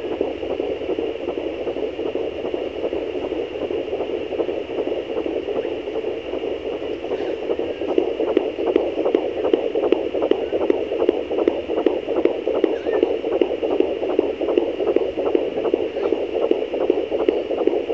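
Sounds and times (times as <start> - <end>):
doppler device hiss: 0.0 - 17.9
fetal heartbeat whooshing pulse: 0.0 - 17.9.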